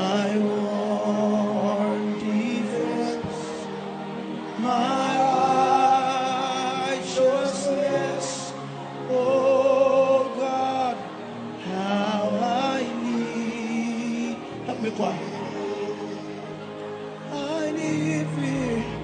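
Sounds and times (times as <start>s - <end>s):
person singing with vibrato: 0.0s - 19.0s.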